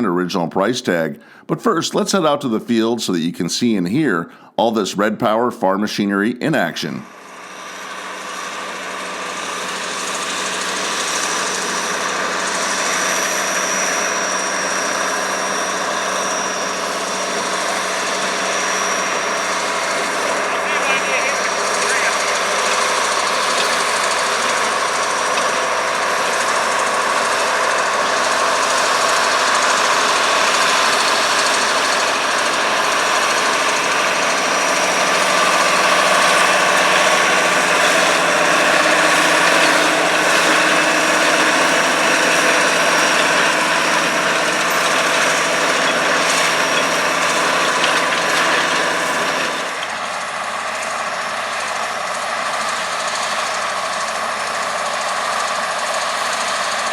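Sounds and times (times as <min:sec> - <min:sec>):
diesel tractor running: 0:00.0 - 0:05.8, 0:06.4 - 0:56.9
baler working: 0:06.4 - 0:56.9.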